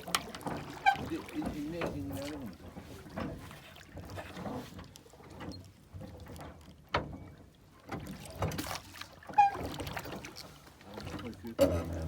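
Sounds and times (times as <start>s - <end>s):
water splashing: 0.0s - 6.4s, 7.8s - 12.0s.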